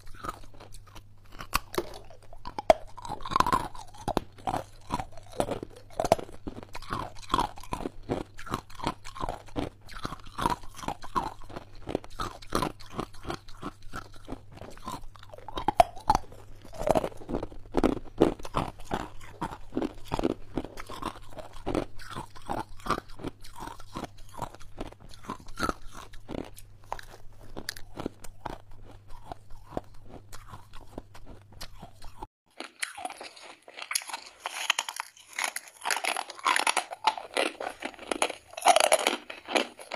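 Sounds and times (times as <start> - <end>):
biting freezer frost: 0.0 - 39.9
chewing hard ice crunches: 0.0 - 39.9.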